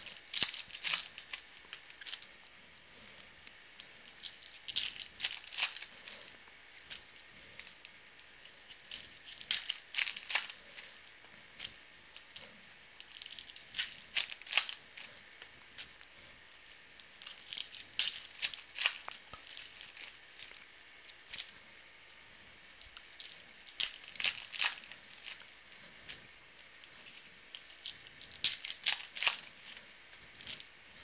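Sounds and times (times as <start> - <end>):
plastic wrappers crinkling and tearing: 0.0 - 21.6, 22.8 - 30.8.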